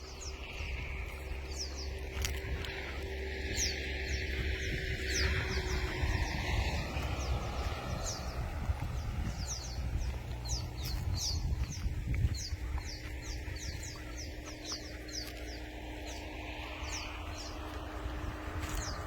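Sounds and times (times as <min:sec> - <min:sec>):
steady low rumble: 0:00.0 - 0:19.0
small bird chirping: 0:03.5 - 0:19.0.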